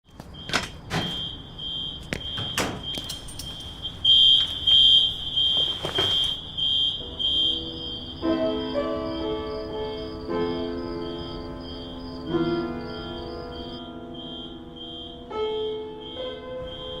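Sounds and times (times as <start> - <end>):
electronic alarm beeping: 0.2 - 17.0.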